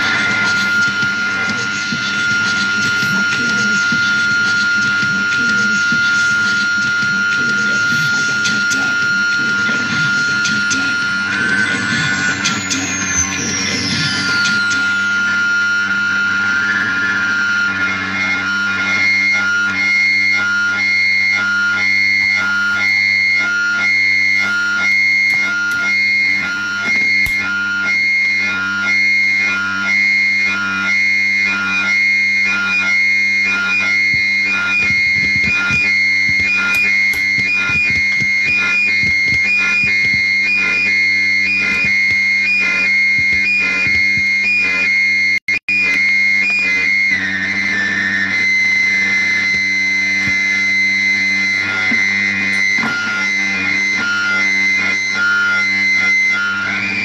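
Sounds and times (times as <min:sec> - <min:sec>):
high piercing pulsing tones: 0:00.0 - 0:57.0
low drone: 0:00.0 - 0:57.0.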